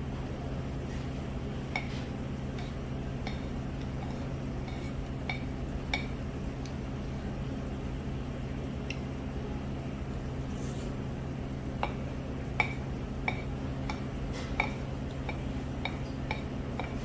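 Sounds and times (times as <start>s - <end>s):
low hum of room machinery: 0.0s - 17.0s.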